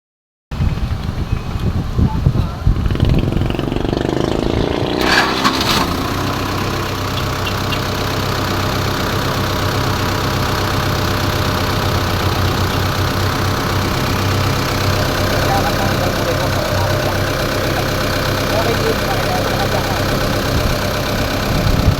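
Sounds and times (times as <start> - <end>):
diesel engine idling: 1.0 - 21.9.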